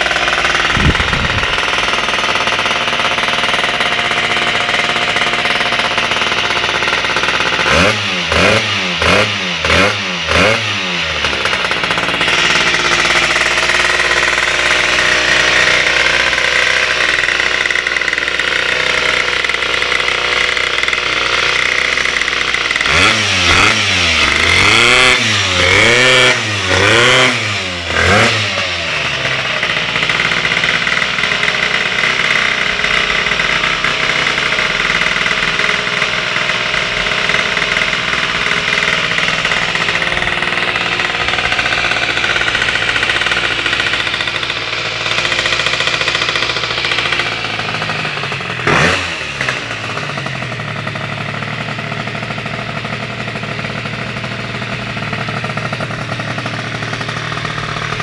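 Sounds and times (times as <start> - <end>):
two-stroke scooter engine revving: 0.0 - 58.0.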